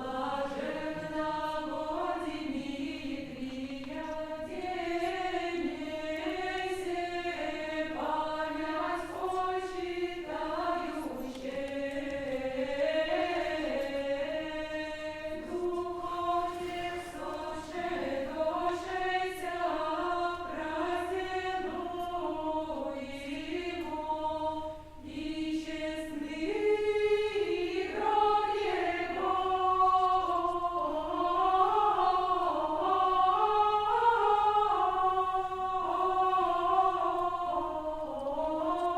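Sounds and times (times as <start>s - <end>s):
unaccompanied choir singing chant: 0.0s - 38.9s.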